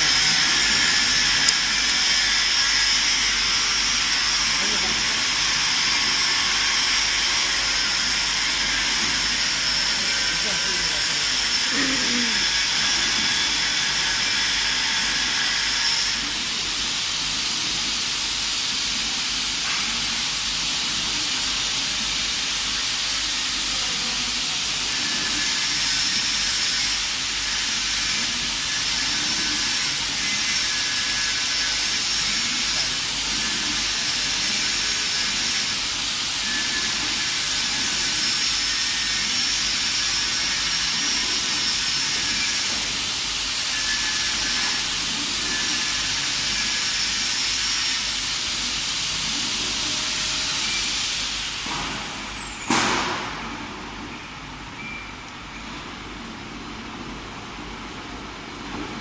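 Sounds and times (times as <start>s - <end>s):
laser cutting machine hiss: 0.0s - 56.0s.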